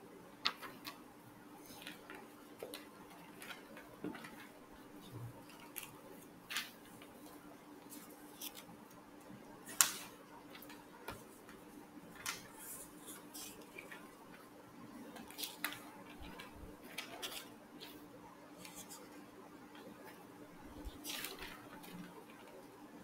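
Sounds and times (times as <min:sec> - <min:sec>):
faint clicks and taps: 0:00.4 - 0:22.8.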